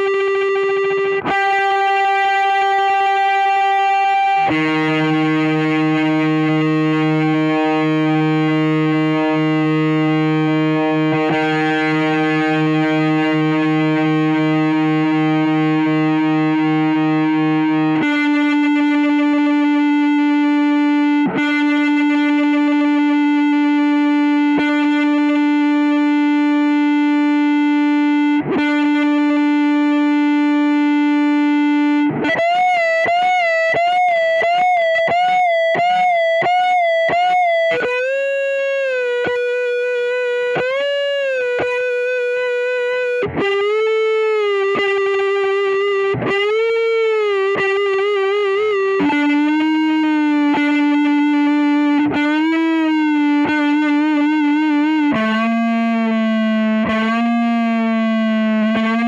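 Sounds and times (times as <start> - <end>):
distorted electric guitar notes: 0.0 - 59.0.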